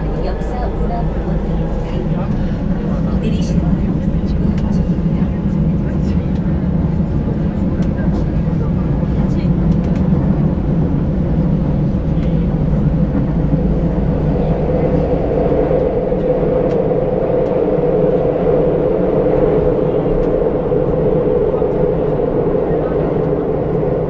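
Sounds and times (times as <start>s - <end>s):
higher steady drone: 0.0s - 24.0s
train wheels and motors rumbling: 0.0s - 24.0s.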